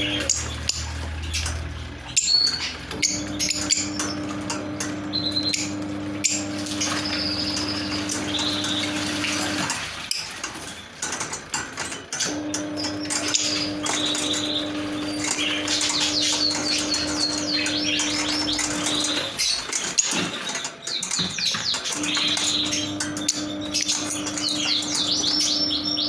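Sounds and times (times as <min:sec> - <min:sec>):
lovebirds chirping: 0:00.0 - 0:09.6, 0:12.3 - 0:26.0.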